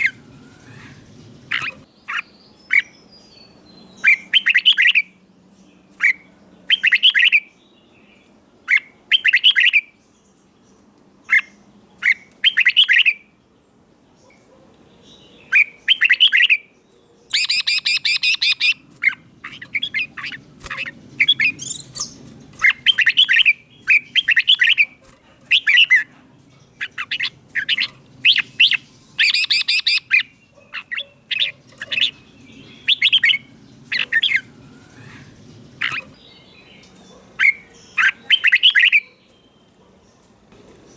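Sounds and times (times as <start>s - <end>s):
bird singing warbling phrases: 0.0s - 13.4s, 14.2s - 40.9s.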